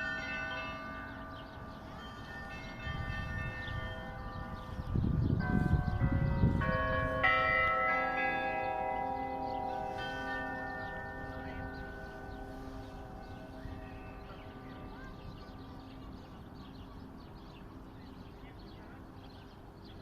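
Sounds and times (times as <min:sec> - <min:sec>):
church bells ringing: 0:00.0 - 0:19.8.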